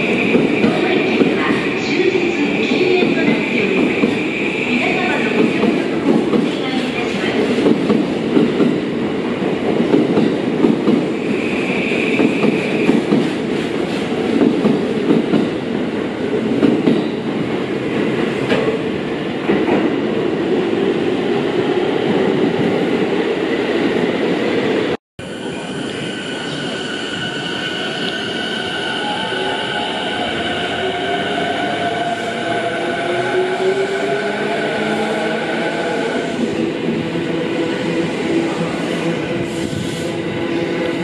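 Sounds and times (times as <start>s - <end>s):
commuter train rumbling past: 0.0s - 41.0s.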